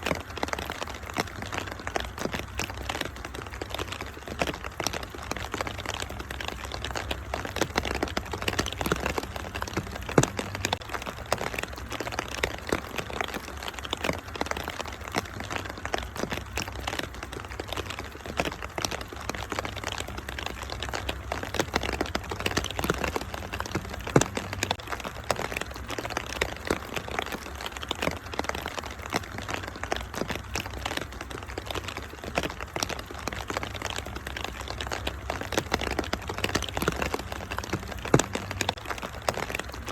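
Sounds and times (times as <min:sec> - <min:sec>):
rain hissing: 0:00.0 - 0:39.9
wood fire crackling: 0:00.0 - 0:39.9.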